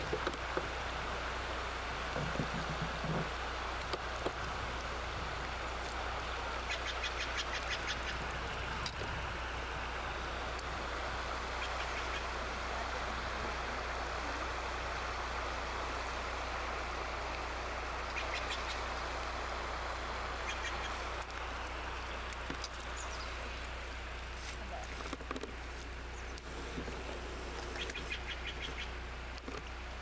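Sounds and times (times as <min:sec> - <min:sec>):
low steady hum: 0:00.0 - 0:30.0
river flowing over rocks: 0:00.0 - 0:30.0.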